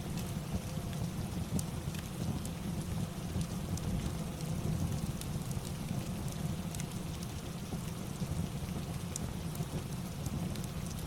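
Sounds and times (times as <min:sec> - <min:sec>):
steady rain falling: 0:00.0 - 0:11.0
wood fire crackling: 0:00.0 - 0:11.0.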